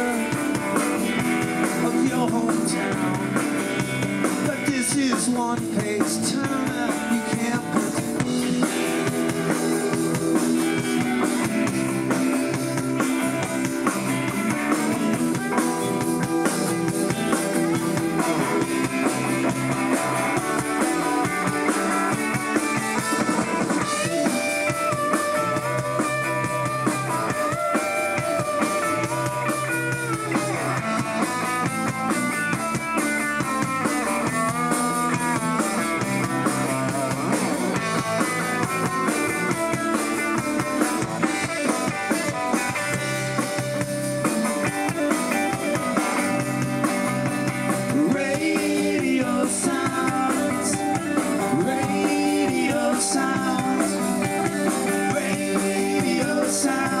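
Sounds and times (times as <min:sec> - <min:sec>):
electric guitars: 0:00.0 - 0:57.0
rock band playing: 0:00.0 - 0:57.0.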